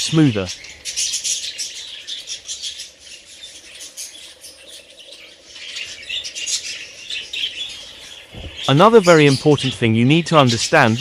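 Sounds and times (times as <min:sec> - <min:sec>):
budgerigars chattering and chirping: 0:00.0 - 0:11.0.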